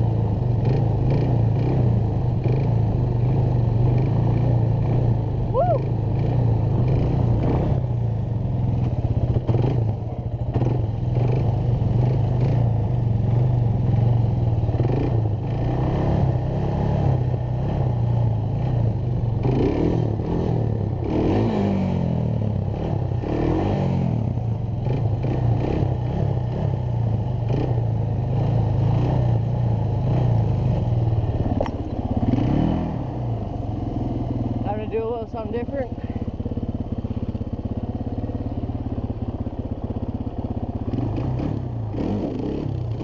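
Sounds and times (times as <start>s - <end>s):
quad engine running under throttle: 0.0s - 43.0s.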